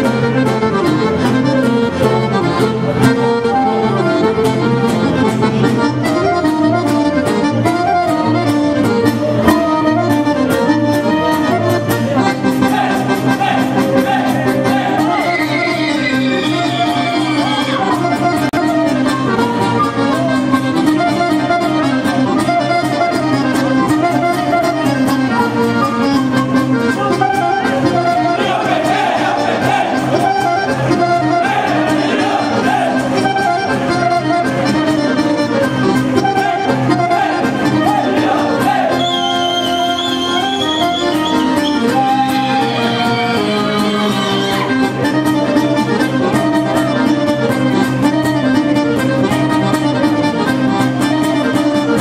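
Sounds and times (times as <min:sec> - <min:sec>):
accordion folk dance music: 0:00.0 - 0:52.0.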